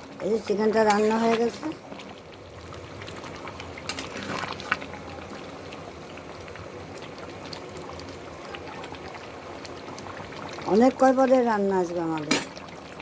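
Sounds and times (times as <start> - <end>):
food simmering in a pot: 0.0 - 13.0.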